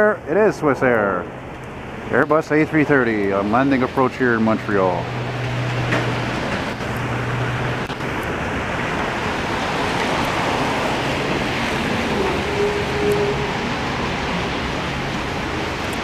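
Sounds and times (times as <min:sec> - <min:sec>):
jet engine rushing overhead: 0:00.2 - 0:16.0.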